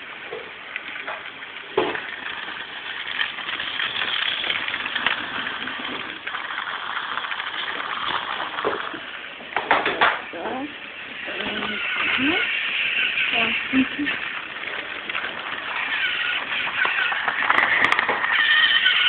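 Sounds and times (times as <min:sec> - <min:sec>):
toy train motor whirring: 0:00.8 - 0:19.0.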